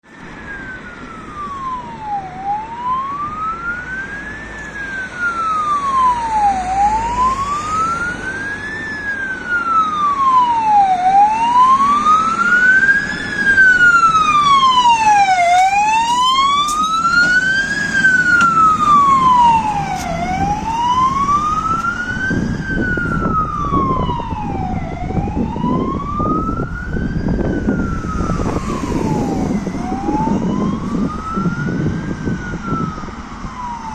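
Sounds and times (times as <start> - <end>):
fire engine siren wailing: 0.0 - 33.9
truck engine and tyre noise: 0.0 - 33.9.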